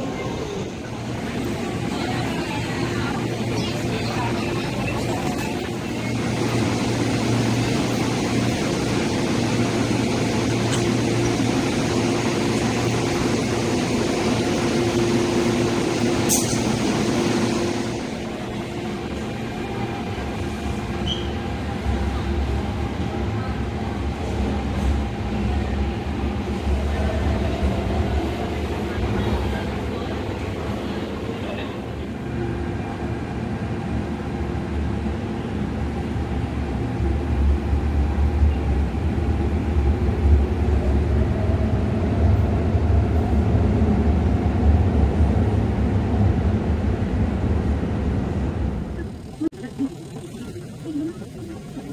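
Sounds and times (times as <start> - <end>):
crowd noise: 0.0 - 44.1, 48.8 - 51.9
deep low train rumble: 0.0 - 51.9
train humming at platform: 0.0 - 51.9.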